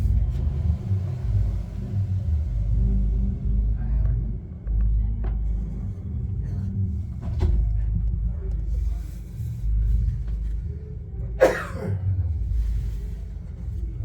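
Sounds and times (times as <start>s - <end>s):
muffled bass-heavy music: 0.0s - 14.0s.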